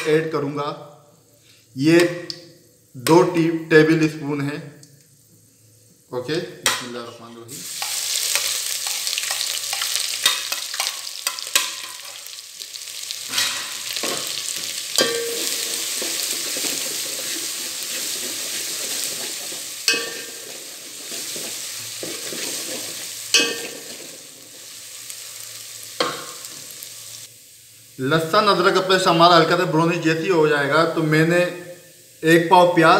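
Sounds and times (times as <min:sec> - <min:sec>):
paste sizzling in hot oil: 0:05.4 - 0:32.9.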